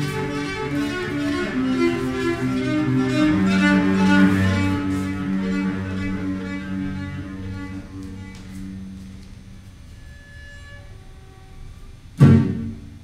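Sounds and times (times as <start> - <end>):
solo cello low notes: 0.0 - 13.0.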